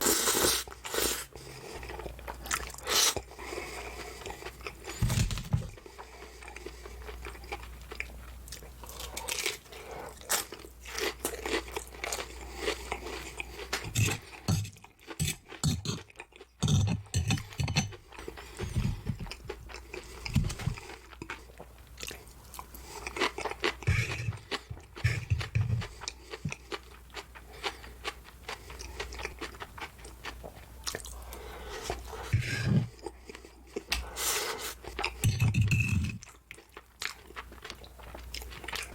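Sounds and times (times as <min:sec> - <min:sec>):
person chewing crisp food: 0:00.0 - 0:38.9.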